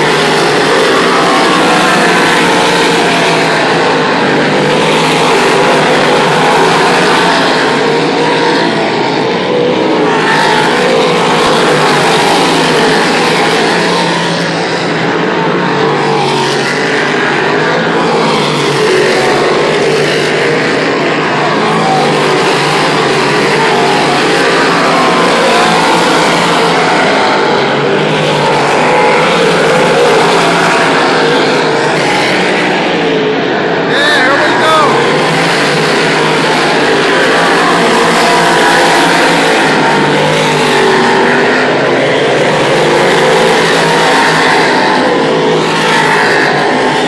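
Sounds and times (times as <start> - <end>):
race cars engines racing: 0.0 - 47.0.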